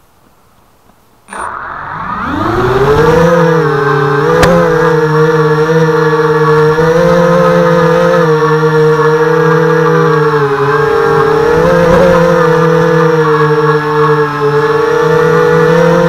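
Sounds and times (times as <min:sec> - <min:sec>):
quadcopter motors whining and buzzing: 0:01.3 - 0:16.0.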